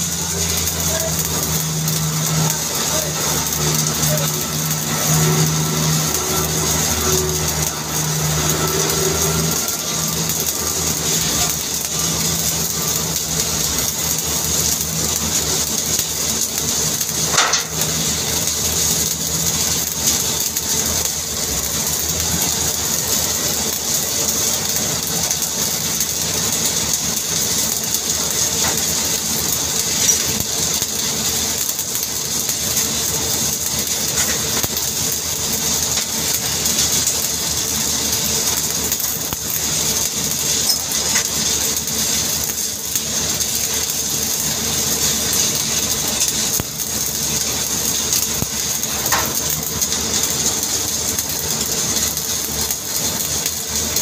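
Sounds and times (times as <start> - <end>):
welding arc crackling and hissing: 0.0 - 54.0.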